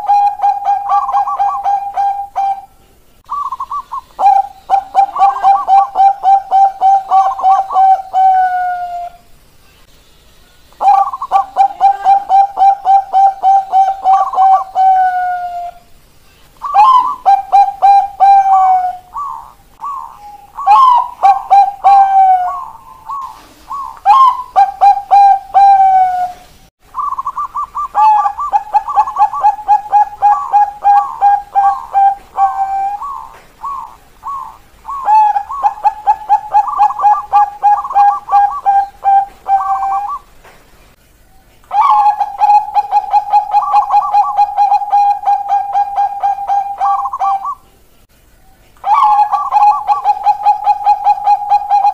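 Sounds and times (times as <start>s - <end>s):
doves cooing: 0.0s - 9.2s, 10.8s - 15.8s, 16.6s - 40.4s, 41.7s - 47.7s, 48.8s - 51.9s.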